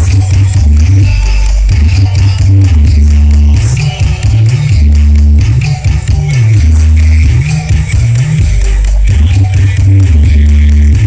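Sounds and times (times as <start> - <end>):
loud music with heavy bass line: 0.0 - 11.0.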